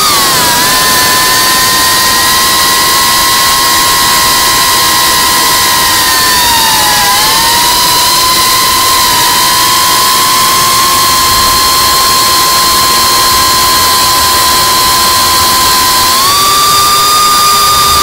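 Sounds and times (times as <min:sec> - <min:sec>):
drone motors and propellers whining: 0:00.0 - 0:18.0.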